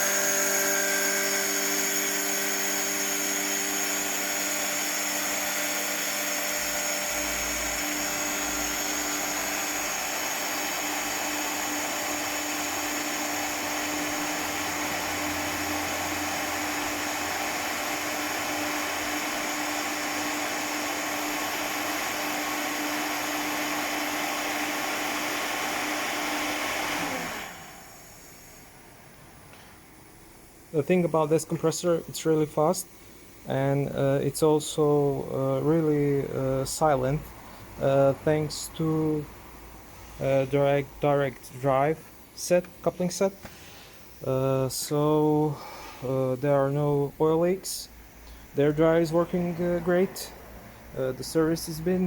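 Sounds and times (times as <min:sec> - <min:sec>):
air compressor hum: 0:00.0 - 0:52.0
compressor high whine: 0:00.0 - 0:52.0.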